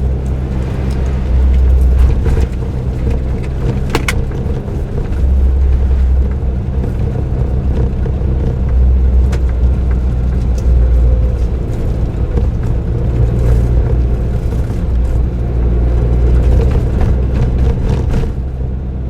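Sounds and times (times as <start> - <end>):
car engine and tyres droning: 0.0 - 19.0.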